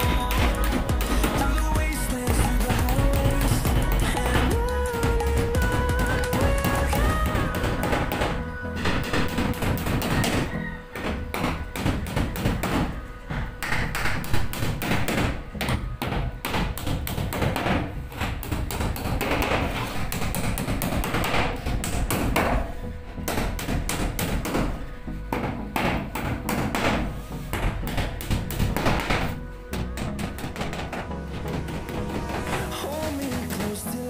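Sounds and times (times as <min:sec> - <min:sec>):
background music: 0:00.0 - 0:34.0.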